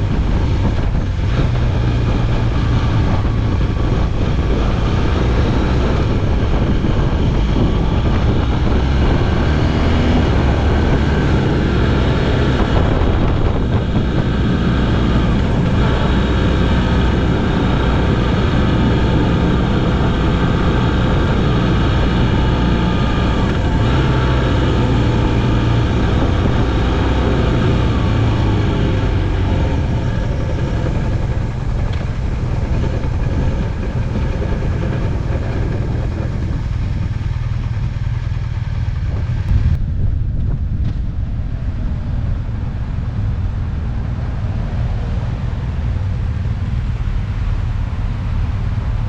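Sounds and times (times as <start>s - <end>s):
motorcycle engine cruising: 0.0s - 49.0s
wind and road noise: 0.0s - 49.0s.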